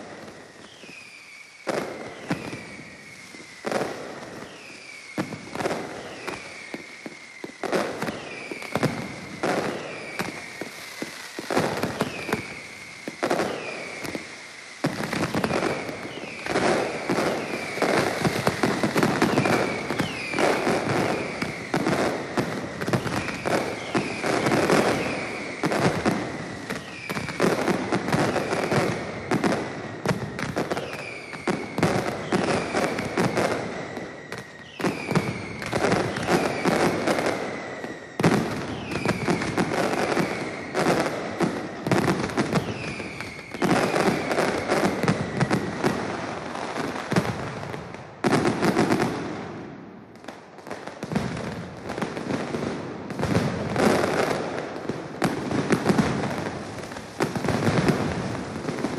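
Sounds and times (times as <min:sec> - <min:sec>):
firecrackers exploding rapidly: 0:00.0 - 0:58.9
whistling fireworks: 0:00.0 - 0:58.9.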